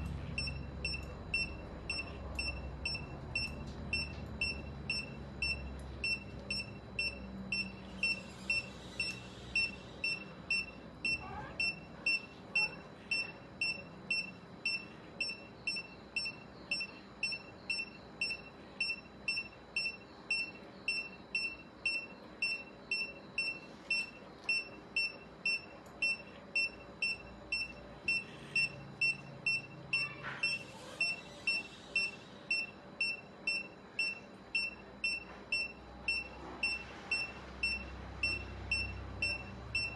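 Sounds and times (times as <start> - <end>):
patient monitor short high beeps: 0.4 - 39.9.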